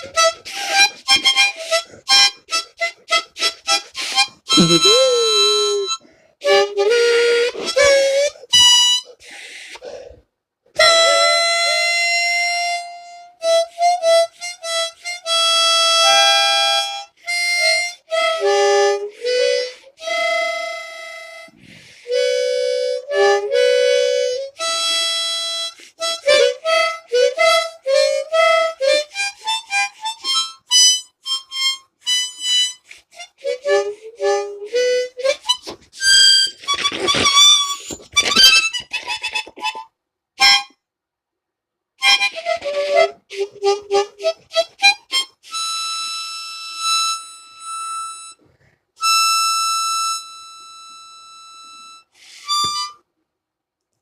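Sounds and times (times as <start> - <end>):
reedy wind instrument melody: 0.0 - 9.4, 10.8 - 40.8, 42.0 - 48.4.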